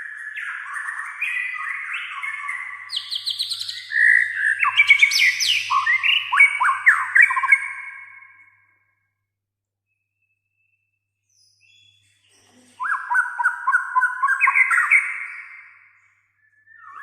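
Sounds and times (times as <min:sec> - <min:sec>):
songbird whistling song: 0:00.0 - 0:08.8, 0:09.9 - 0:17.0.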